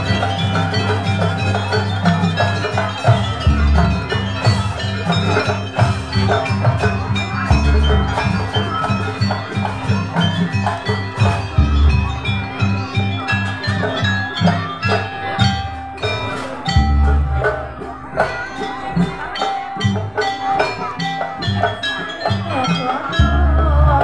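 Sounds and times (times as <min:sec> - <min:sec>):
tuned metal percussion: 0:00.0 - 0:24.0.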